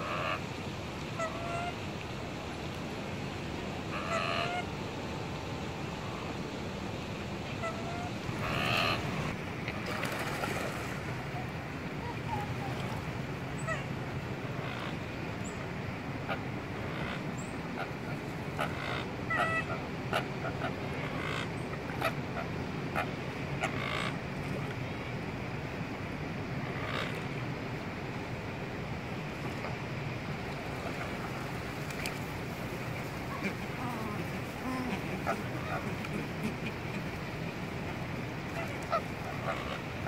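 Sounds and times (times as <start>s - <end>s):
low background noise: 0.0s - 40.0s
waterbirds calling: 0.0s - 40.0s.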